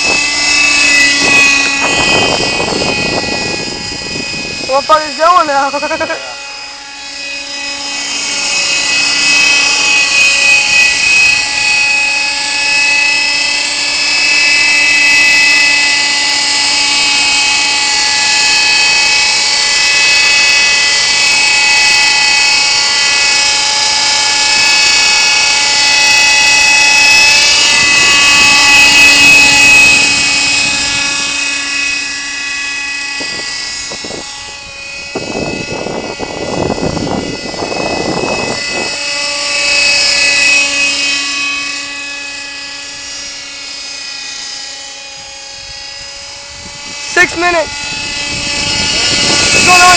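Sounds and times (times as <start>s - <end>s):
model helicopter engine whine: 0.0s - 49.9s.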